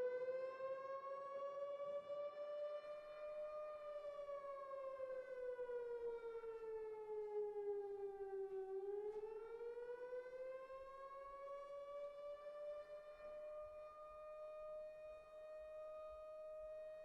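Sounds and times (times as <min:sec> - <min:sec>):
civil defense siren wailing: 0:00.0 - 0:17.0.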